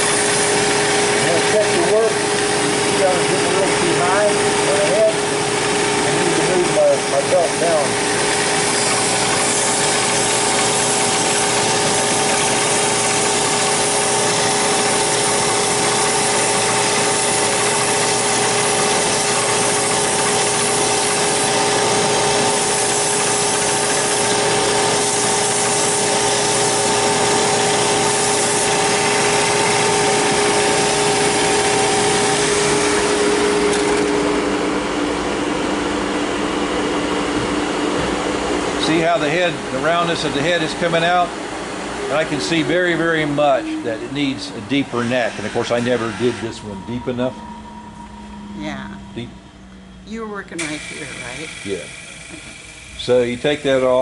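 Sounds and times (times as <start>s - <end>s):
belt sander motor hum: 0.0s - 54.0s.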